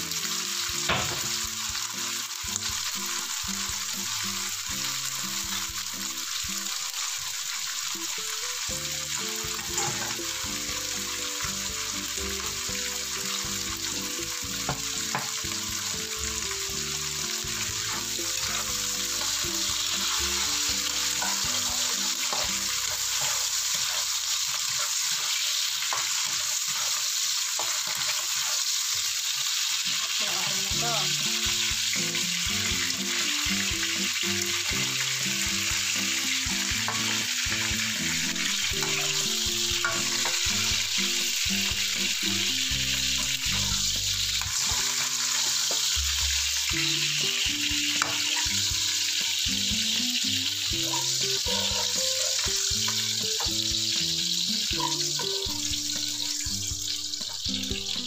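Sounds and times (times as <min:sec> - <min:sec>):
light background music: 0:00.0 - 0:28.4, 0:29.3 - 0:58.0
beans sizzling in hot oil: 0:00.0 - 0:58.0.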